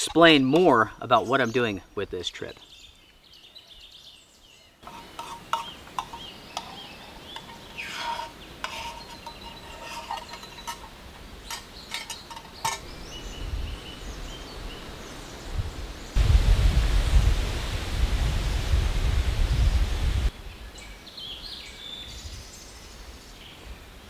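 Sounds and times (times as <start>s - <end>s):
small birds chirping: 0.0s - 16.2s, 19.5s - 23.8s.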